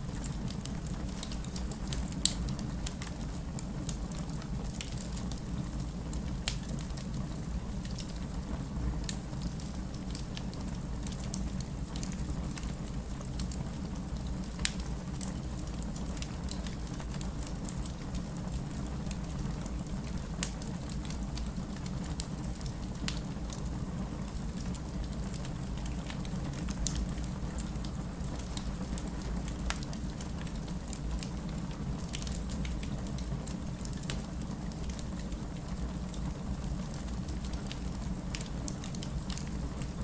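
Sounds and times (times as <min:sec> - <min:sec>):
fire rumbling: 0:00.0 - 0:40.0
logs crackling and popping: 0:00.2 - 0:08.4, 0:09.0 - 0:23.6, 0:24.2 - 0:40.0.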